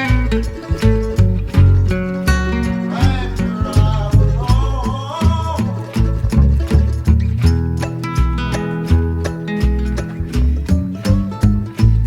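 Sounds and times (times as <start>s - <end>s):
upbeat acoustic guitar music: 0.0s - 12.0s.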